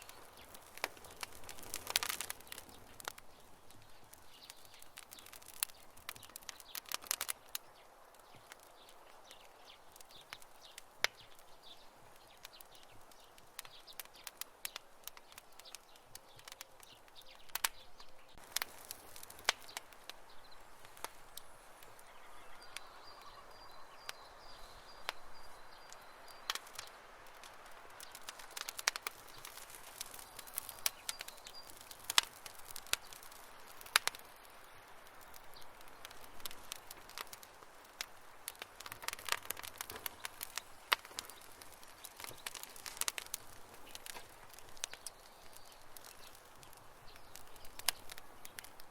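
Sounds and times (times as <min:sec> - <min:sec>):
campfire crackling: 0:00.0 - 0:48.9
soft steady fire hiss: 0:00.0 - 0:48.9.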